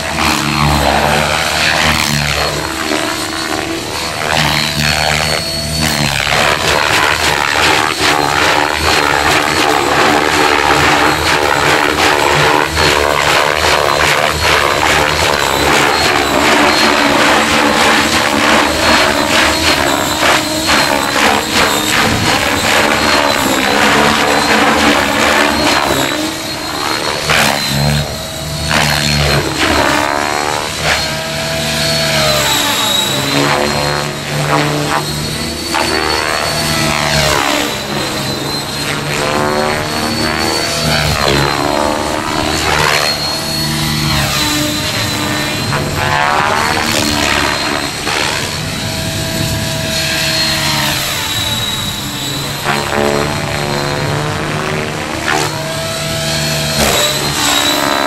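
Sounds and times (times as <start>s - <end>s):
helicopter rotor blade noise: 0.0s - 58.0s
high-pitched drivetrain whine: 0.0s - 58.0s.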